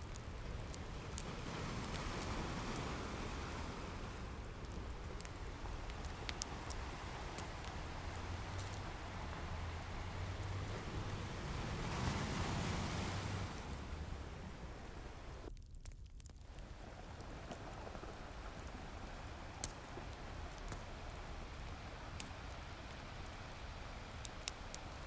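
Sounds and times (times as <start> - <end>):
ocean waves on shore: 0.0 - 15.5, 16.5 - 25.0
wood fire crackling: 0.0 - 25.0.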